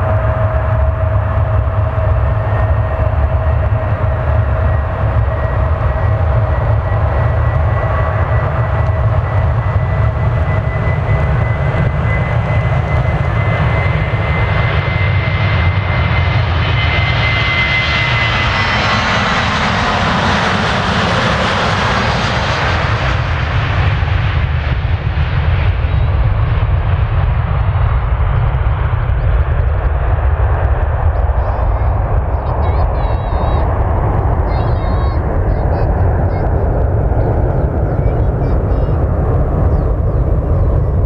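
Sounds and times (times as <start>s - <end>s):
jet engines at takeoff thrust: 0.0s - 41.0s.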